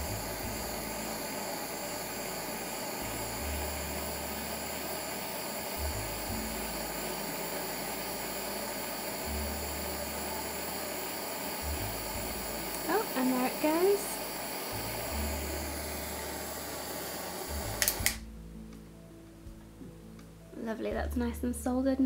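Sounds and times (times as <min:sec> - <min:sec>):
gas torch flame hissing: 0:00.0 - 0:18.3.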